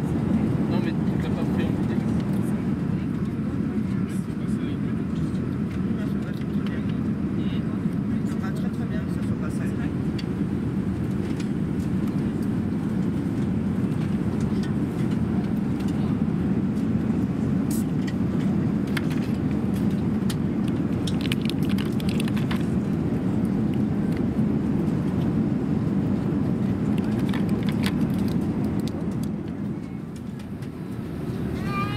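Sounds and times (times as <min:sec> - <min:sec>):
airplane cabin drone: 0:00.0 - 0:31.9.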